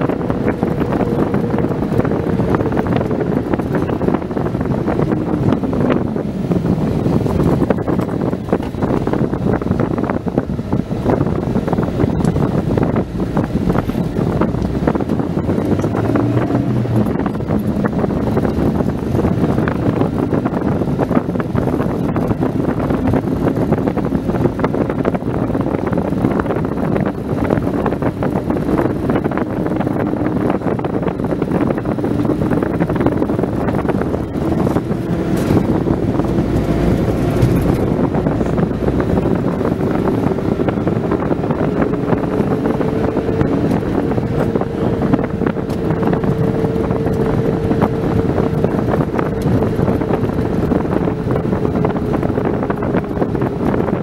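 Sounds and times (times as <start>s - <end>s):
car engine running: 0.0s - 54.0s
road noise inside car: 0.0s - 54.0s.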